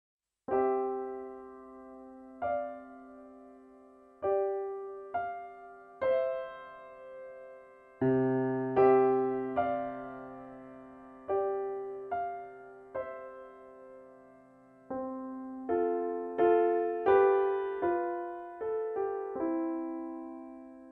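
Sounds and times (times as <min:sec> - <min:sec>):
solo piano chords: 0:00.5 - 0:20.9.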